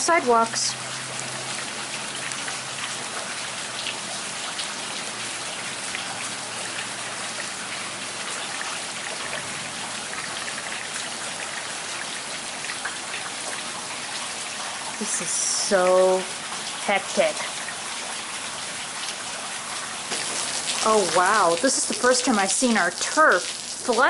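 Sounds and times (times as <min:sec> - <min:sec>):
close raindrop impacts: 0:00.0 - 0:24.0
rain on flooded pavement: 0:00.0 - 0:24.0.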